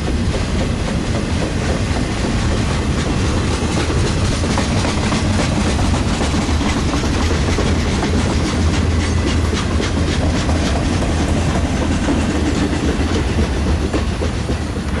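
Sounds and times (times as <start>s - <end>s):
freight train rumble: 0.0s - 15.0s
wheels clicking over rail joints: 0.0s - 15.0s.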